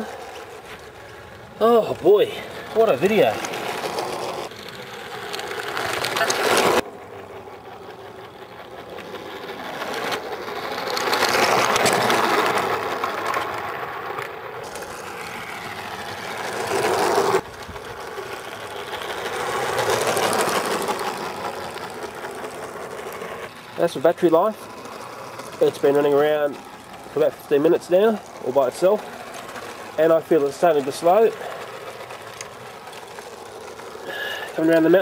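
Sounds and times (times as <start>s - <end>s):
model train motor and gears running: 0.0s - 35.0s.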